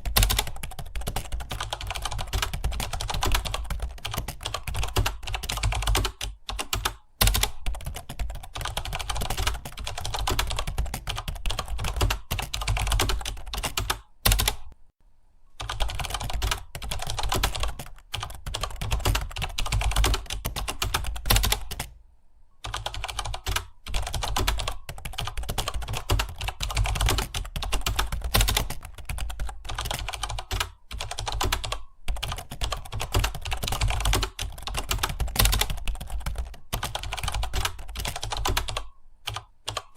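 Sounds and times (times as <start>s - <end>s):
fast typing on keyboard: 0.0s - 14.8s, 15.6s - 22.0s, 22.6s - 39.9s.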